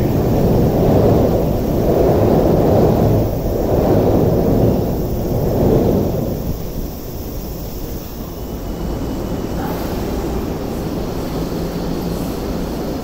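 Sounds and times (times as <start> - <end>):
train rumbling slowly: 0.0 - 13.0.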